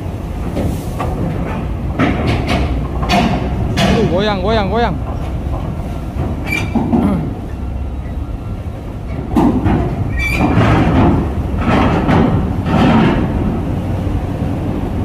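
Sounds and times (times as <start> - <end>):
truck diesel engines rumbling: 0.0 - 15.0.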